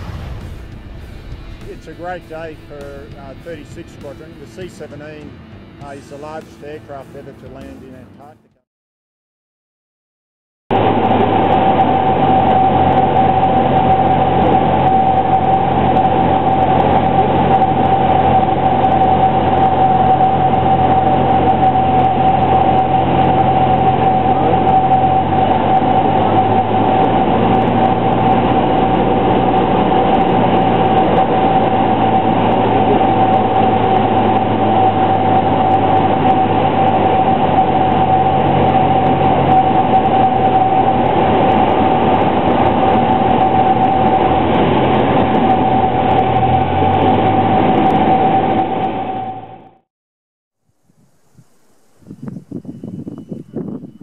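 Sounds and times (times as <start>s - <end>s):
propeller aircraft engine droning: 0.0s - 8.4s, 10.7s - 49.8s, 51.3s - 54.0s
steady high tone: 0.1s - 5.2s, 10.7s - 49.8s.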